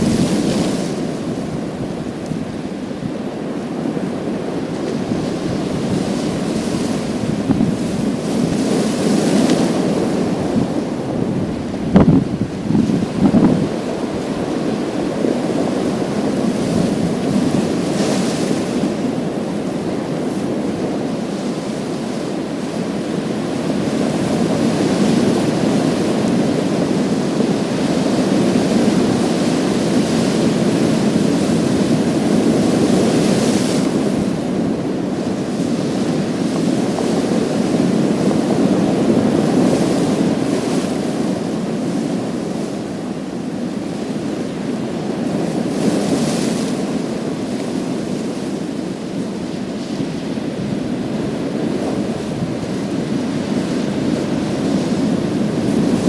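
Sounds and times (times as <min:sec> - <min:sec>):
waves washing over pebbles: 0:00.0 - 0:56.0.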